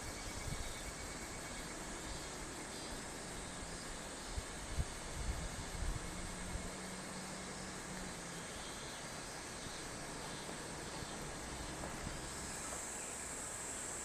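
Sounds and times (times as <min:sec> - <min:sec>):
high insect chorus: 0:00.0 - 0:14.0
steady hiss: 0:00.0 - 0:14.0.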